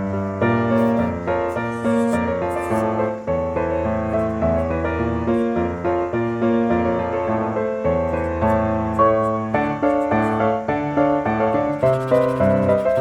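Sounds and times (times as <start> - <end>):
piano tune: 0.0 - 13.0.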